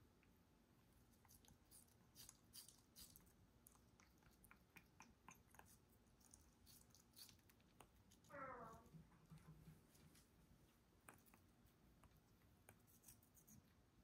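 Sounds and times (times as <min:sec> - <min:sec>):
parrot chewing fruit: 0:00.9 - 0:13.9.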